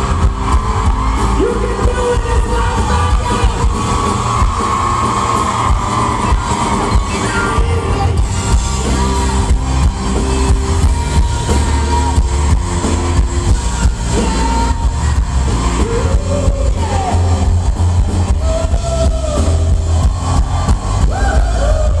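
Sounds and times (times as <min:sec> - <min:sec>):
drum beat: 0:00.0 - 0:22.0
heavy bass line: 0:00.0 - 0:22.0.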